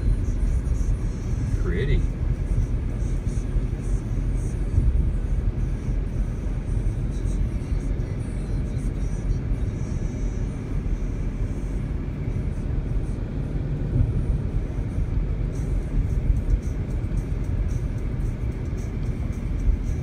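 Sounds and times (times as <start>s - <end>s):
car engine rumble: 0.0s - 20.0s
tyres on road: 0.0s - 20.0s.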